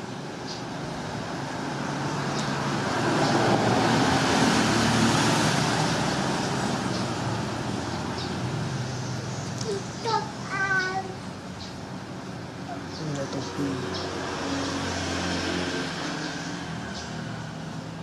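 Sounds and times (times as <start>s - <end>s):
vehicle passing by: 0.7s - 11.5s, 12.2s - 18.0s.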